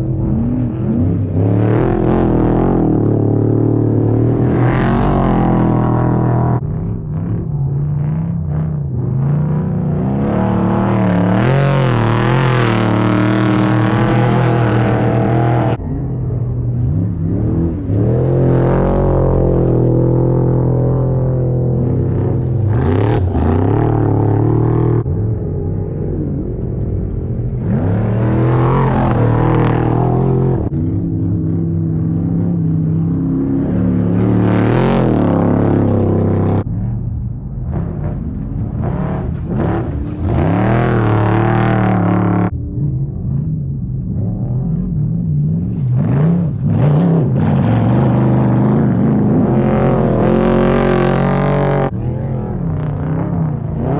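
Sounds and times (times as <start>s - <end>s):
race vehicle engine revving: 0.0s - 53.9s.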